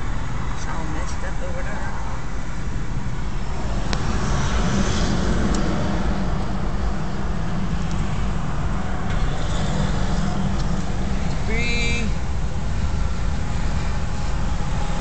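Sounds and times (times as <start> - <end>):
car road noise rumble: 0.0 - 15.0.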